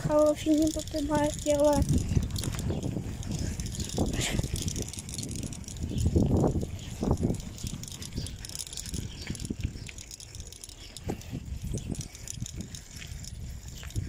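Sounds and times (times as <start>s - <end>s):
bicycle rattling over rough asphalt: 0.0s - 14.0s.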